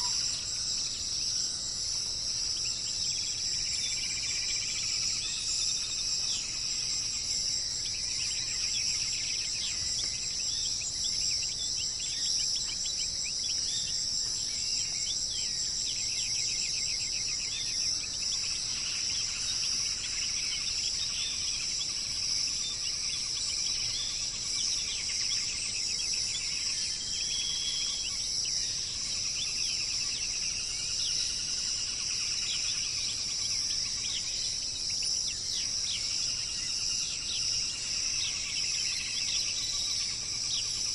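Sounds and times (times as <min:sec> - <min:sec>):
insects chorus: 0:00.0 - 0:40.9
songbirds singing: 0:00.0 - 0:40.9.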